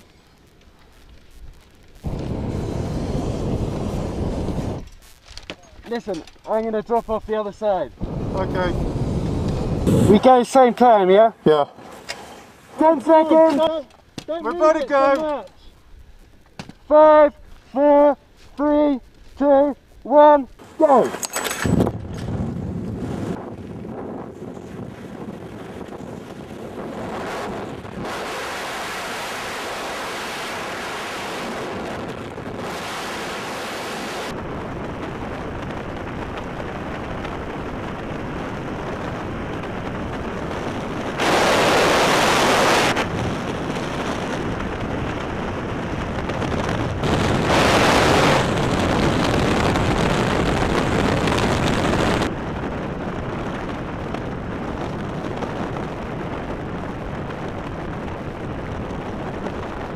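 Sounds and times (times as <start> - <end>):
wind rushing over microphone: 1.3 - 11.6, 16.9 - 59.9.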